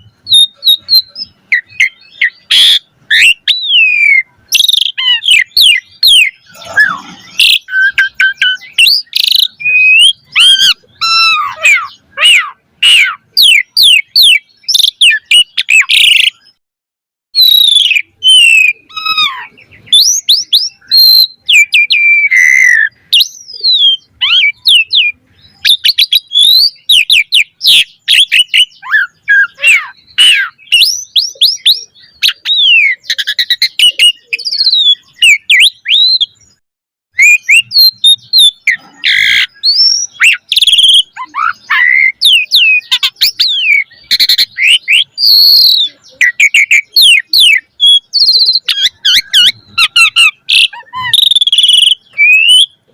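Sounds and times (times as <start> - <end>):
starling singing: 0.0 - 16.6, 17.4 - 52.9.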